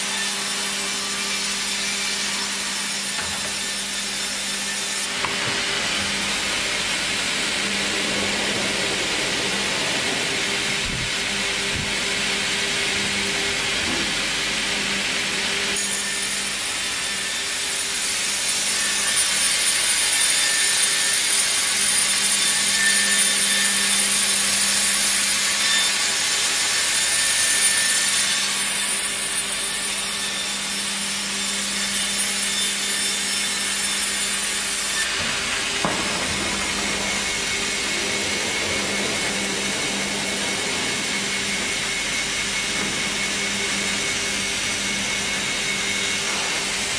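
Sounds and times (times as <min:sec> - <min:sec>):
band saw cutting through log: 0:00.0 - 0:46.9.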